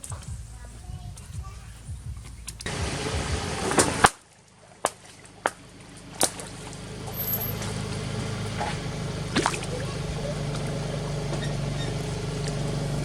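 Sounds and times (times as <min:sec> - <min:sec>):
low hum: 0:02.4 - 0:13.0.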